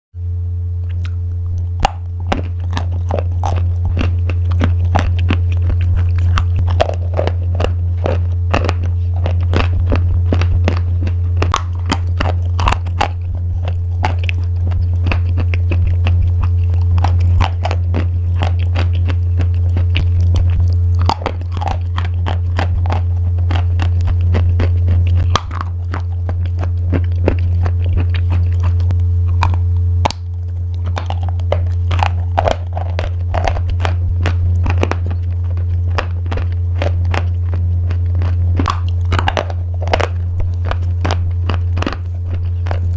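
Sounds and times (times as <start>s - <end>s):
steady low hum: 0.2s - 42.9s
dry pasta crunching: 0.8s - 42.9s.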